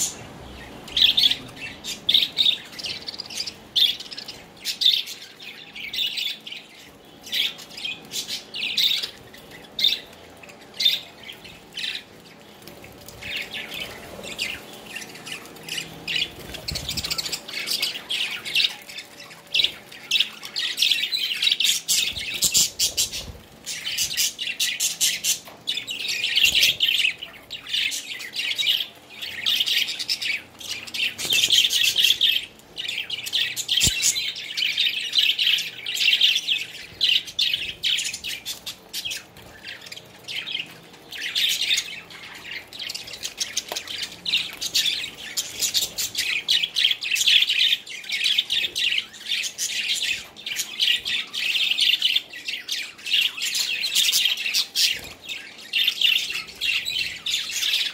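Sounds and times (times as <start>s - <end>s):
budgerigars chattering and chirping: 0.0s - 57.9s.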